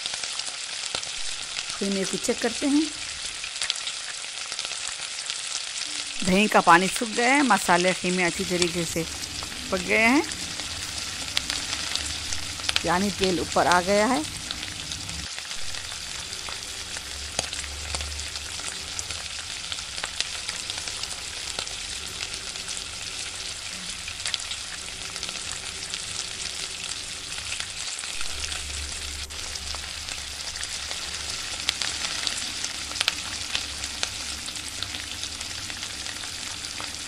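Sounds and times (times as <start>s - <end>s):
meat sizzling in oil: 0.0s - 37.0s.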